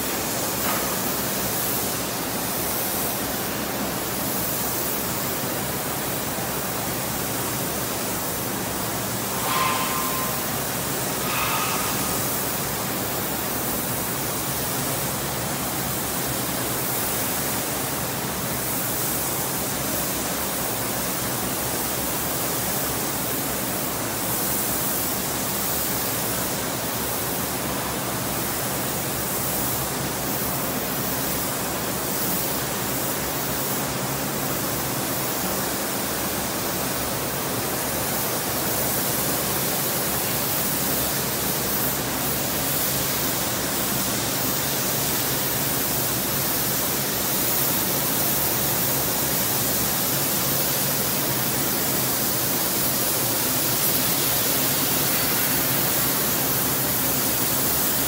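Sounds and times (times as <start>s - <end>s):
steady rushing hiss: 0.0s - 58.0s.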